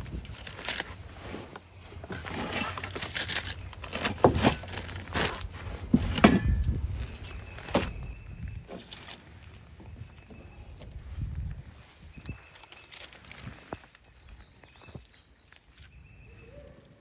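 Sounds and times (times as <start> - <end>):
crinkling and scraping handling: 0.0 - 17.0.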